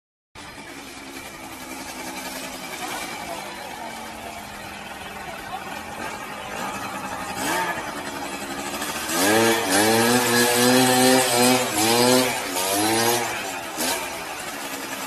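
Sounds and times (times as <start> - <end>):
scooter engine revving: 0.4 - 15.0.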